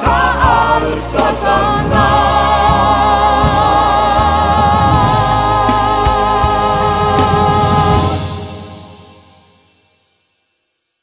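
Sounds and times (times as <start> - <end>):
person singing a hymn: 0.0 - 8.9
drum beats: 0.0 - 9.6
band chord: 0.5 - 9.8.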